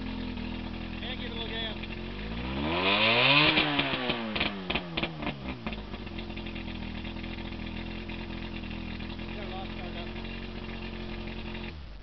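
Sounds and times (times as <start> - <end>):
outboard motor revving and idling: 0.0 - 12.0.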